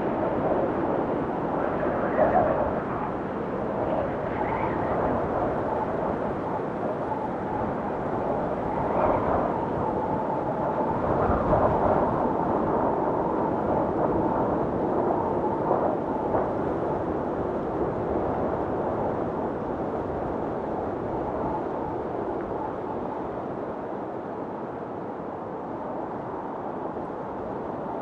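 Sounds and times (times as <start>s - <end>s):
howling blizzard wind: 0.0s - 28.0s.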